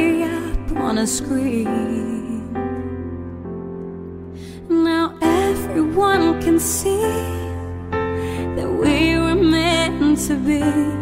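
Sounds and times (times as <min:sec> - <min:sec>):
slow melody: 0:00.0 - 0:11.0.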